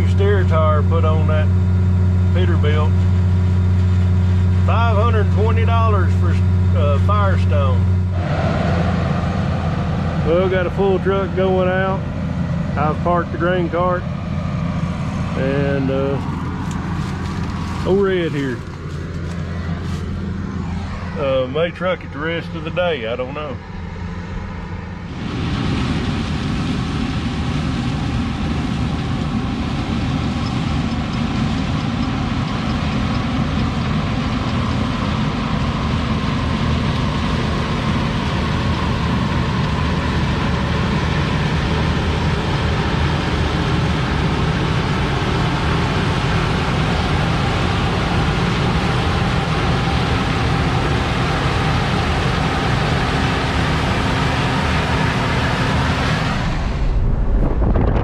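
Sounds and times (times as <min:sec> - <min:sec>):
large diesel engine running: 0:00.0 - 0:58.0.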